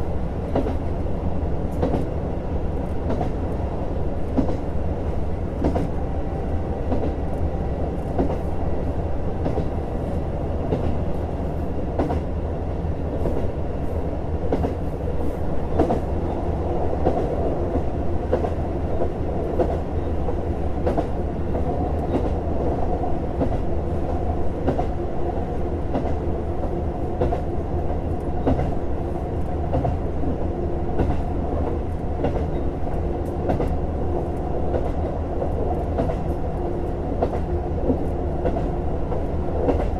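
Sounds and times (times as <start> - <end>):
train engine rumble: 0.0 - 39.9.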